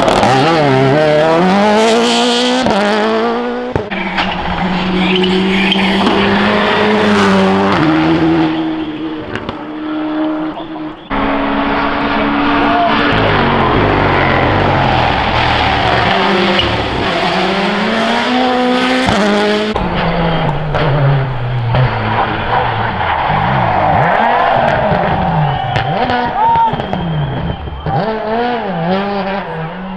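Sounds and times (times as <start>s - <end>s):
rally car engines revving high: 0.0s - 29.9s.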